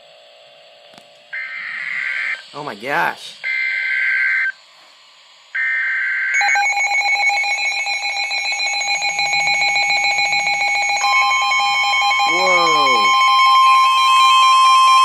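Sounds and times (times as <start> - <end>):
steady alarm tone: 1.3 - 4.7, 5.4 - 15.0
loud pulsing alarm tone: 1.4 - 4.6, 5.5 - 15.0.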